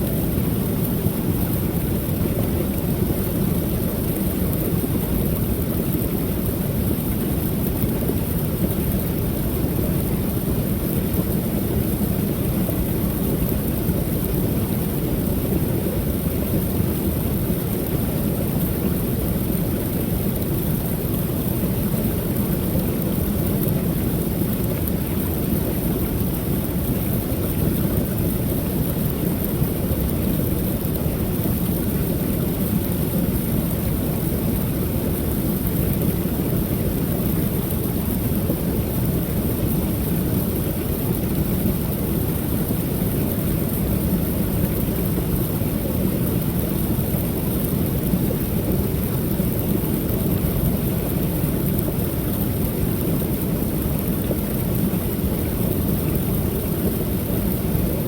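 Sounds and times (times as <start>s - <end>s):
water pouring over waterfall: 0.0s - 58.0s.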